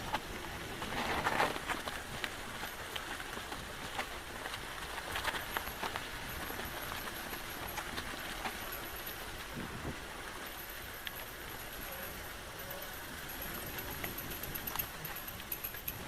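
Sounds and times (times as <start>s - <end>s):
bike clicks and rattles: 0.0s - 16.0s
bike tyres rolling on dirt: 0.0s - 16.0s.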